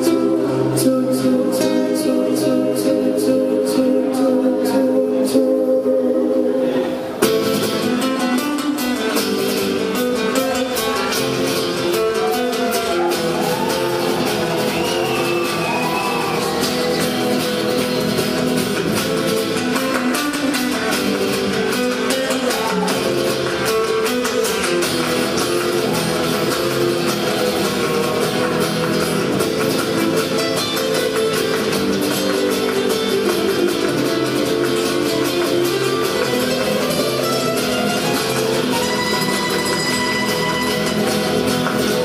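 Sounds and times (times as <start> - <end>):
live band with strummed guitar: 0.0 - 42.0.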